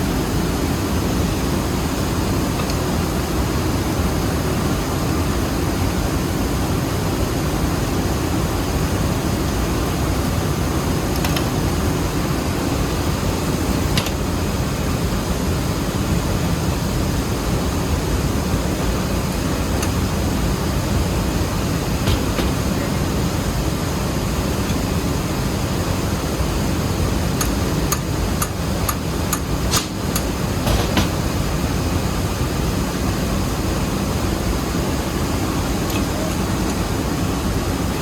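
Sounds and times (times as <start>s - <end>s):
mill machinery drone: 0.0s - 38.0s.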